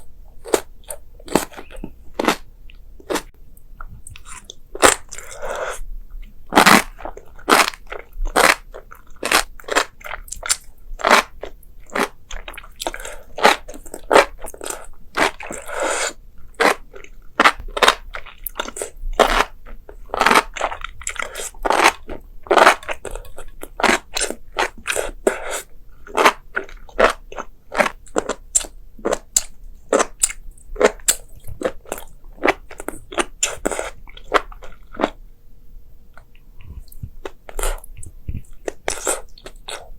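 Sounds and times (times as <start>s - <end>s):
person chewing crunchy food: 0.0s - 35.2s, 36.1s - 39.9s.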